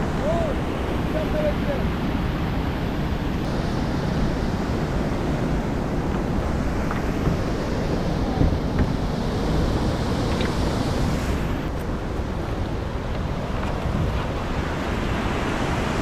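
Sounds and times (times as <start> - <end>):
river whitewater rushing: 0.0 - 16.0
wind rumbling on microphone: 0.0 - 16.0.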